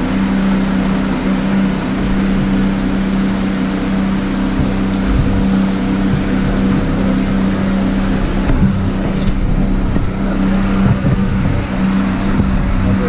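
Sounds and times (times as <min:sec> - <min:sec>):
motor boat engine droning: 0:00.0 - 0:13.0
water rushing past hull: 0:00.0 - 0:13.0.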